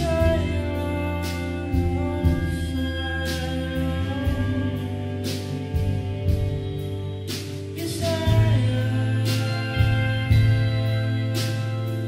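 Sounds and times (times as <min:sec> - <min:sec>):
instrumental chords over bass: 0:00.0 - 0:12.0.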